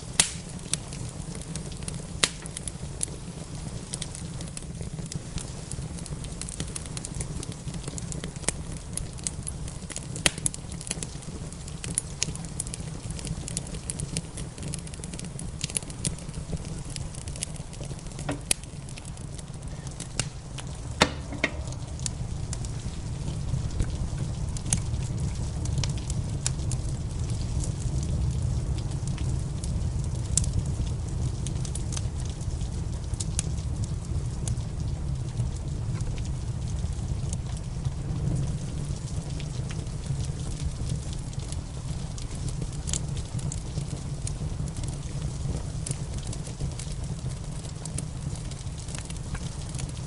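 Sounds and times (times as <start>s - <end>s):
rain falling: 0.0s - 50.0s
wood fire crackling: 0.0s - 50.0s.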